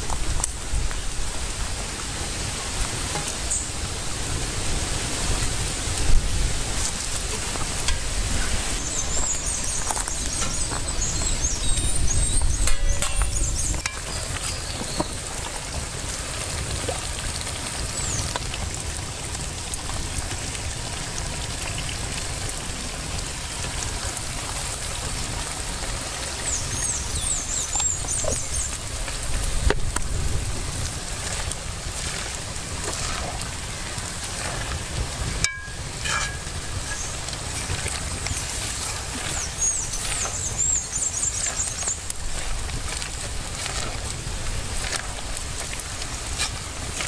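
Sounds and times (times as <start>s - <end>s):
fire crackling: 0.0s - 47.0s
pot simmering over fire: 0.0s - 47.0s.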